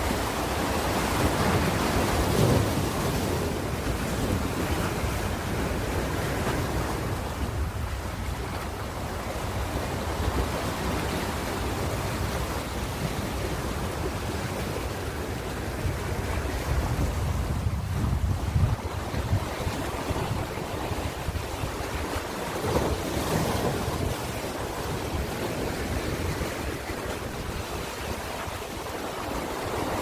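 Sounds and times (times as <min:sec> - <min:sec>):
ocean waves breaking on shore: 0:00.0 - 0:30.0
wind buffeting microphone: 0:00.0 - 0:30.0.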